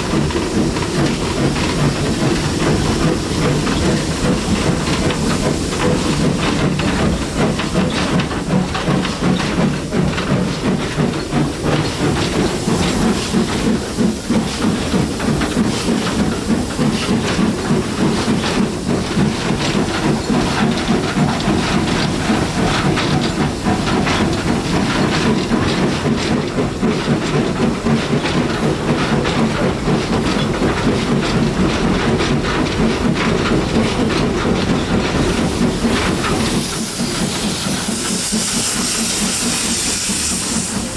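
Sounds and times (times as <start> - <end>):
steam hissing: 0.0 - 40.9
train running: 0.0 - 40.9.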